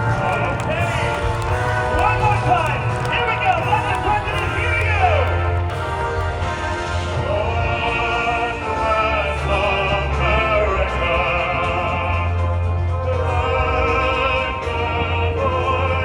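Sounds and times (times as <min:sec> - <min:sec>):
operatic singing voice: 0:00.0 - 0:16.0
orchestral backing: 0:00.0 - 0:16.0.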